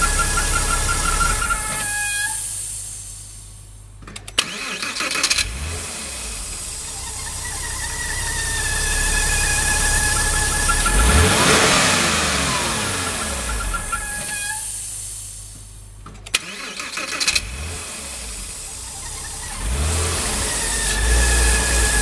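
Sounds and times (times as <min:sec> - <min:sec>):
starter cranking engine: 0:00.0 - 0:02.5, 0:04.2 - 0:14.9, 0:16.2 - 0:22.0
car engine idling: 0:00.0 - 0:22.0.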